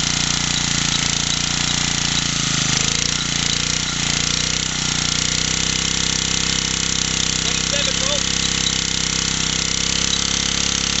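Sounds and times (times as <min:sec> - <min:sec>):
small stationary engine running: 0:00.0 - 0:11.0.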